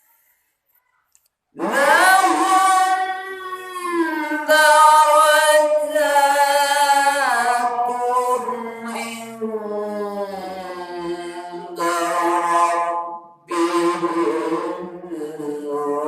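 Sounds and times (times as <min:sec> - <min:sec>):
person chanting recitation: 0:00.8 - 0:16.0.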